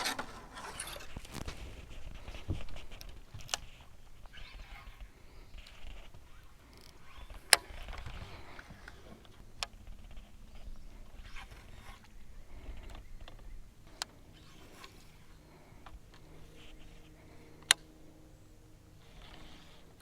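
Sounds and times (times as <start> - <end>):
faint rustling: 0.0 - 20.0.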